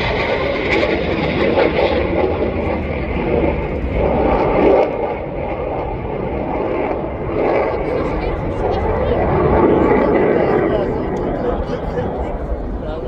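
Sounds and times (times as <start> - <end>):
airplane engine rumble: 0.0 - 13.0.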